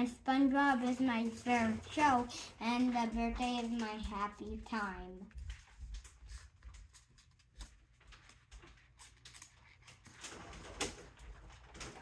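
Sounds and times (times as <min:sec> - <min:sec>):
paper and plastic rustling: 0:00.0 - 0:12.0.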